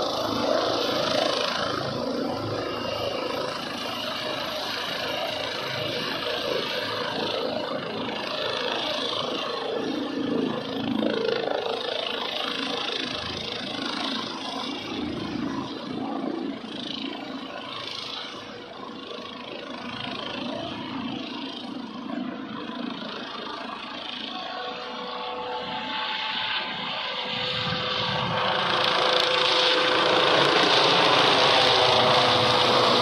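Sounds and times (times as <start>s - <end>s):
helicopter rotor and turbine noise: 0.0s - 33.0s.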